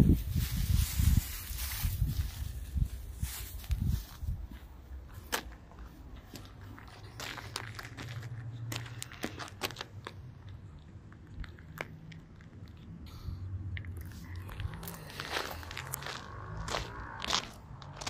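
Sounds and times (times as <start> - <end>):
footsteps on gravel: 0.1 - 12.6, 14.0 - 18.0.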